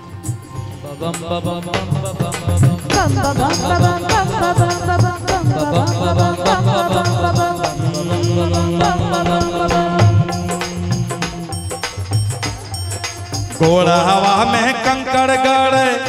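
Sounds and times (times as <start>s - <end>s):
drum beat: 0.0s - 16.0s
folk band playing: 0.0s - 16.0s
rattling percussion: 0.0s - 16.0s
sliding melodic lead: 0.0s - 16.0s.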